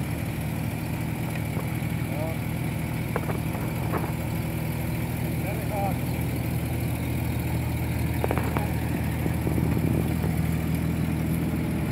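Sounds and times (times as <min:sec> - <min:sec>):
engine running at low revs: 0:00.0 - 0:11.9.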